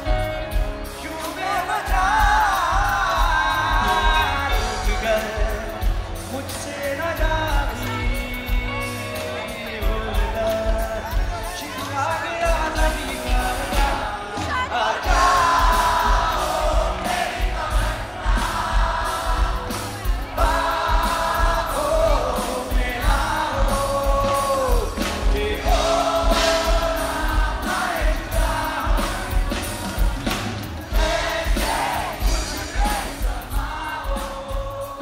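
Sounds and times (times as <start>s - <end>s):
live band music: 0.0s - 35.0s
person singing: 0.0s - 35.0s
steady drum beat: 0.0s - 35.0s.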